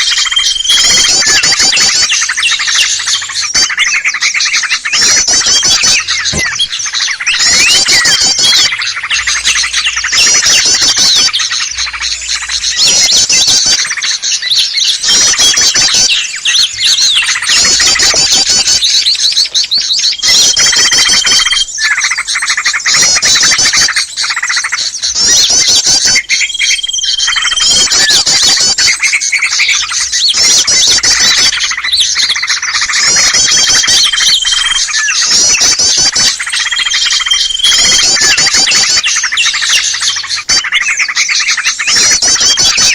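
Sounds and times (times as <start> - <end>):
many small birds chirping: 0.0 - 42.9
rapid high bird trills: 0.0 - 42.9.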